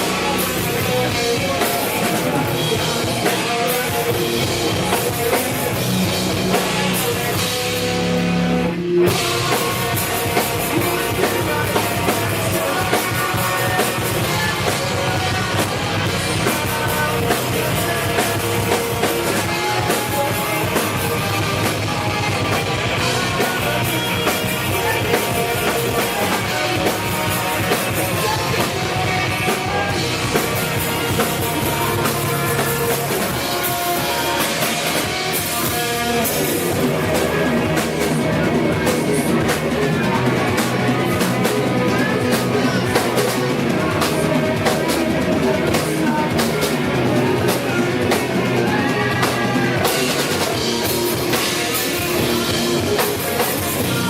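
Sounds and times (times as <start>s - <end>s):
steady drumbeat: 0.0s - 8.4s, 9.0s - 54.0s
rock band playing: 0.0s - 54.0s.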